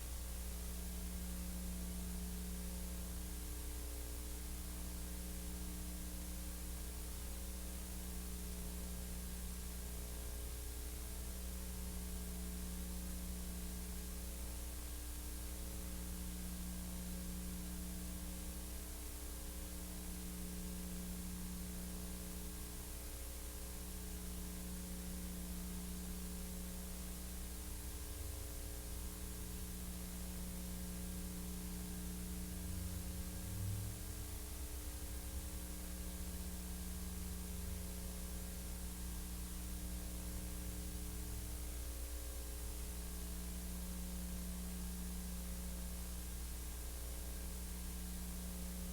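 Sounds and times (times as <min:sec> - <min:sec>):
electrical mains hum: 0:00.0 - 0:48.9.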